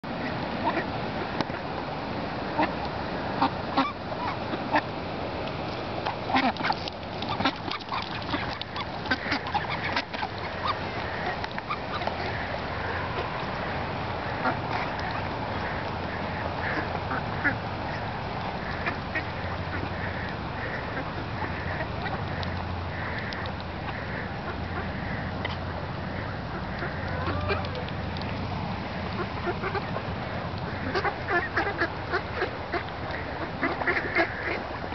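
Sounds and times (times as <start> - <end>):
ducks quacking: 0.2 - 1.7, 2.5 - 4.9, 6.0 - 34.9.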